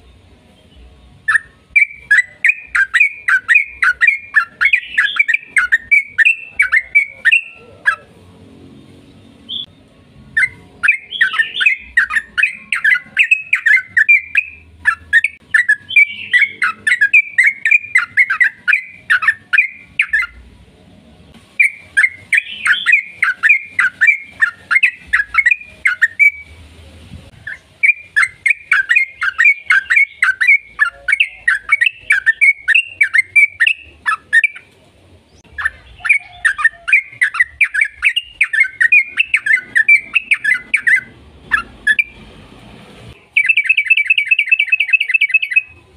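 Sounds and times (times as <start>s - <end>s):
bird chattering song: 0.7s - 8.1s, 9.1s - 20.4s, 21.6s - 26.6s, 27.4s - 42.2s, 43.2s - 45.9s.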